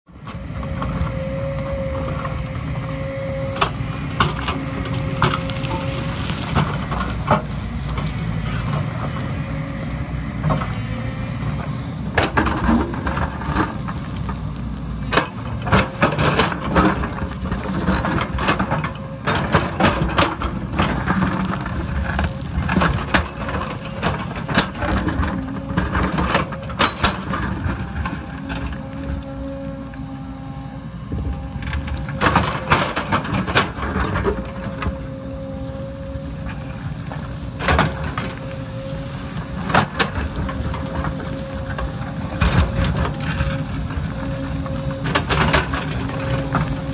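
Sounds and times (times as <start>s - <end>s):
excavator diesel engine running: 0.1s - 46.9s.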